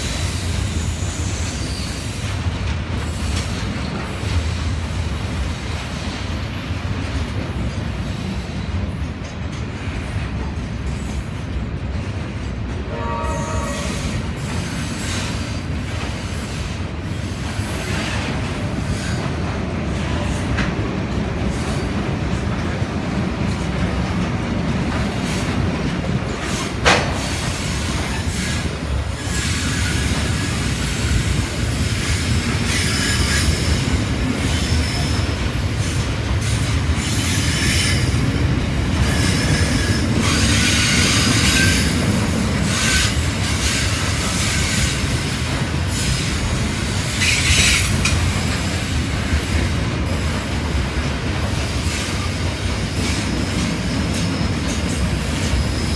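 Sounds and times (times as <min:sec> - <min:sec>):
train wheels running on rails: 0:00.0 - 0:55.9.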